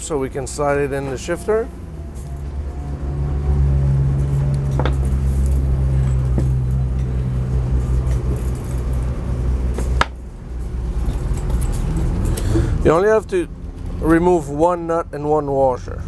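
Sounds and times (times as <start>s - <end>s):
low engine drone: 0.0s - 14.2s.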